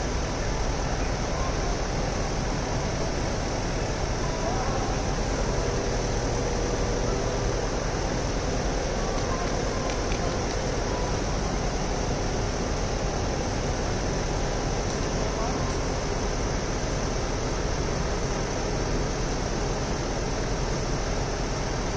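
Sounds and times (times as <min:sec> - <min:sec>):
low mechanical hum with hiss: 0:00.0 - 0:21.9.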